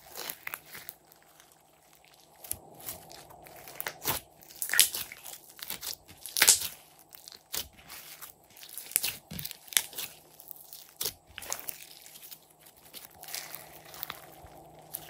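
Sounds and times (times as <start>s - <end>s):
slime crackling and popping: 0.0s - 15.0s.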